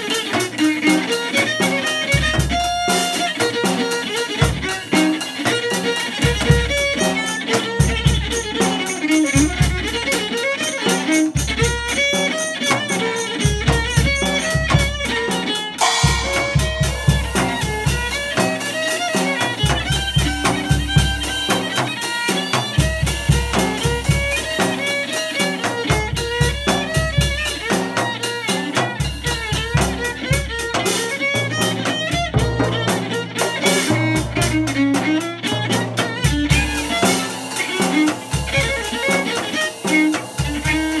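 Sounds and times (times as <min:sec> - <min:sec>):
drum kit beating: 0:00.0 - 0:41.0
electric violin melody: 0:00.0 - 0:41.0.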